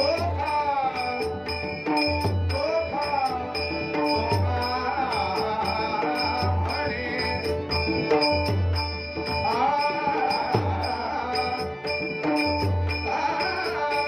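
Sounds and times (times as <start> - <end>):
hand drum: 0.0 - 14.0
man singing: 0.0 - 14.0
small cymbals: 0.0 - 14.0
sustained instrumental tones: 0.0 - 14.0.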